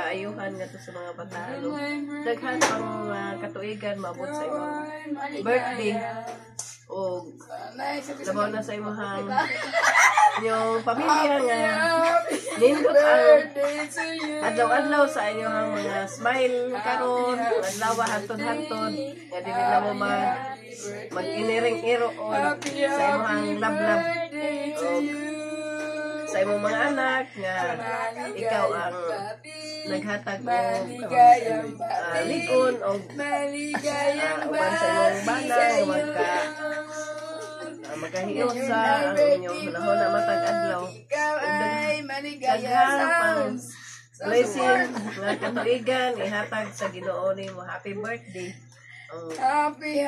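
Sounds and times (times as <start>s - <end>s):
voices singing unaccompanied: 0.0s - 50.0s.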